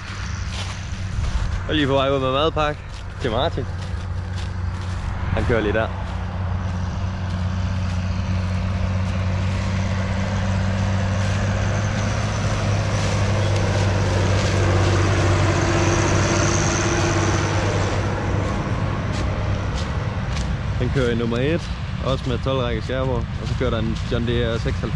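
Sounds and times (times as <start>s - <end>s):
tractor diesel engine humming: 0.0s - 24.9s.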